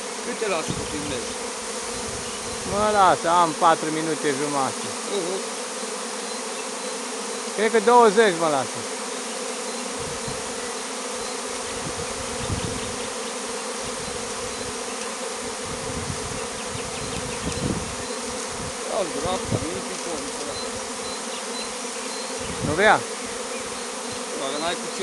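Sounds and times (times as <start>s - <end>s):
bee swarm buzzing: 0.0s - 25.0s.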